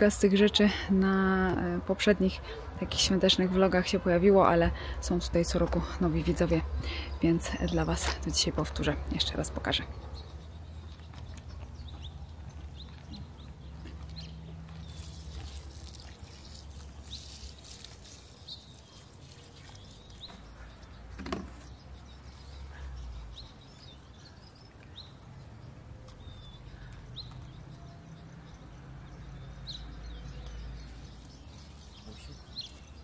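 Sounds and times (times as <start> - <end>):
small birds chirping: 1.5 - 33.0.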